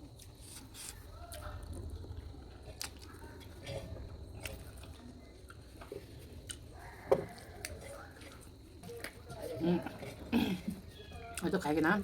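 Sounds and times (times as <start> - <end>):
chewing and mouth noises: 0.0 - 11.5.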